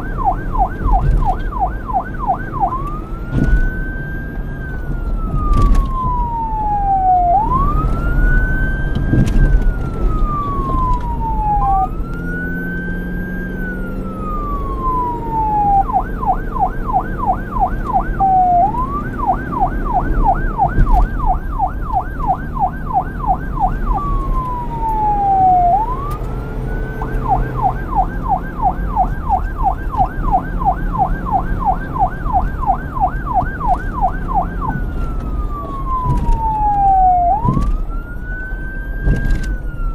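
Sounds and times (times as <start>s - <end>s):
police siren wail and yelp: 0.0s - 39.9s.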